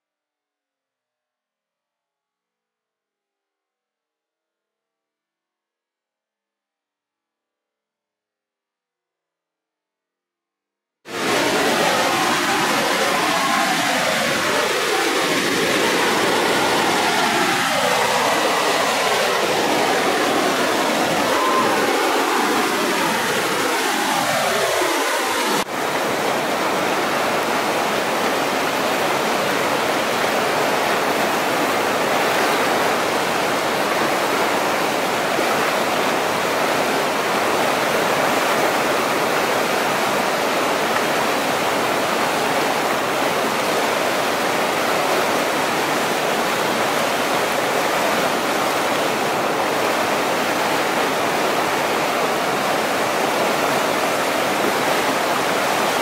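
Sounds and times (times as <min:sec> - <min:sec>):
river rapids rushing: 0:11.1 - 0:56.0.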